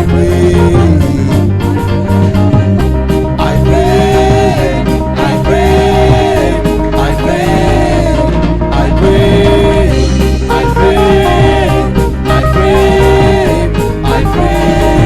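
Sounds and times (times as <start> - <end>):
gospel worship music with band: 0.0 - 15.0.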